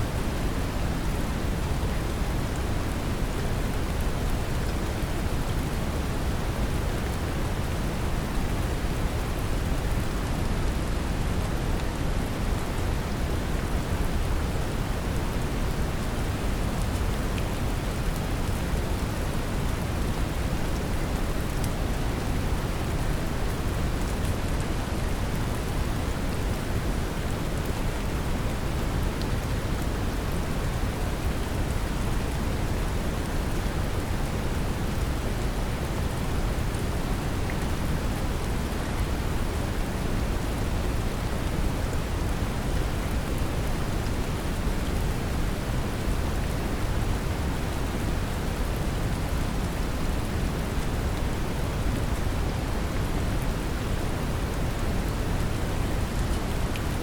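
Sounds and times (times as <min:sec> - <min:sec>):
rain pattering: 0:00.1 - 0:57.0.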